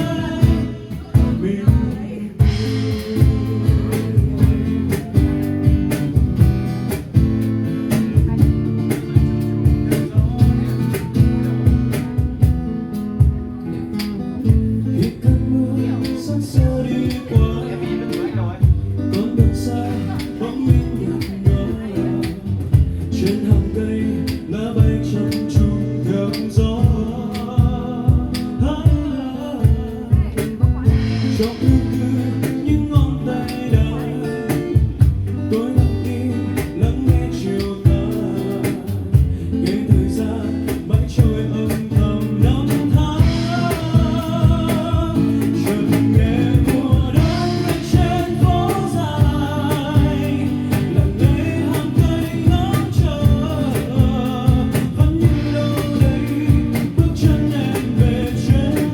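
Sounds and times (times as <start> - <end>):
person singing: 0.0 - 6.2, 14.7 - 58.9
guitar strumming: 0.0 - 58.9.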